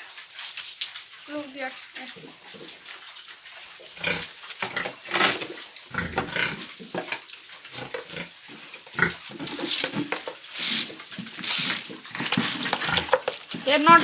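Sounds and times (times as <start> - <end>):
pigs grunting: 1.3 - 14.0.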